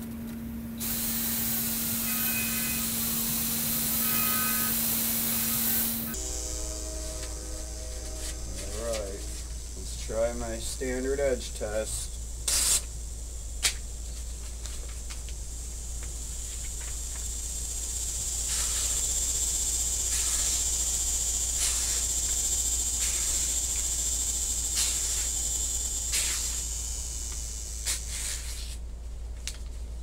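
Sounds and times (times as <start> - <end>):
high insect drone: 0.8 - 28.8.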